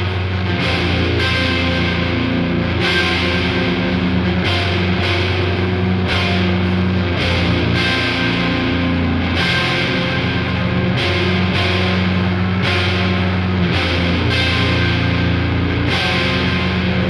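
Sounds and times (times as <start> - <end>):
heavy rock music with guitar: 0.0 - 17.0.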